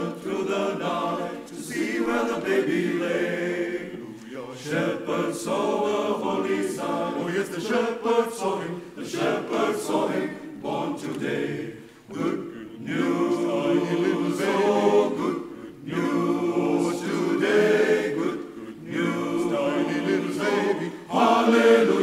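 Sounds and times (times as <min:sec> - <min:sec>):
male choir singing a cappella: 0:00.0 - 0:22.0.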